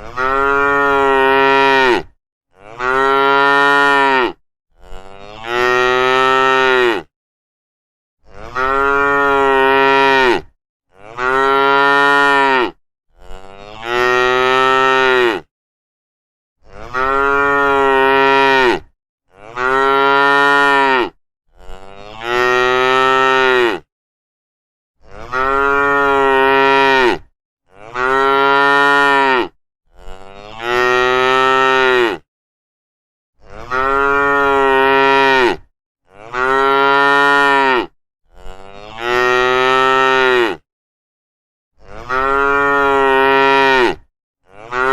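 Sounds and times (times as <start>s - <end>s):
cattle mooing: 0.0s - 7.1s, 8.2s - 15.5s, 16.6s - 23.8s, 25.1s - 32.2s, 33.4s - 40.6s, 41.8s - 44.9s.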